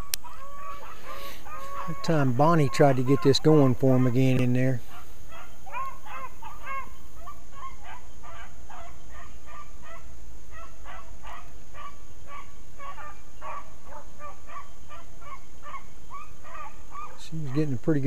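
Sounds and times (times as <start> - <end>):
hounds baying: 0.0 - 17.8.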